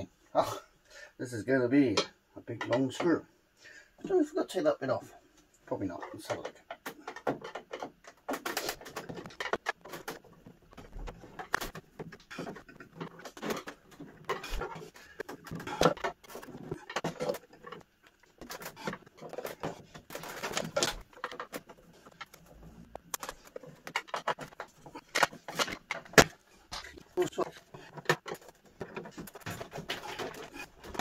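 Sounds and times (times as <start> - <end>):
small clicks and knocks: 5.4 - 31.0.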